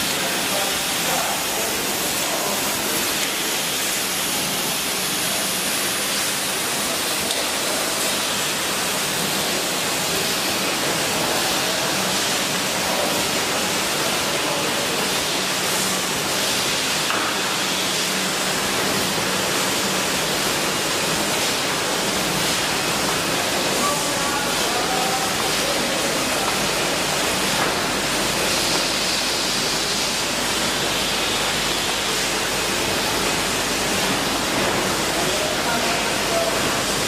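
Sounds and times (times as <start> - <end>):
conveyor machinery hiss: 0.0 - 37.0
faint machinery hum: 0.0 - 37.0.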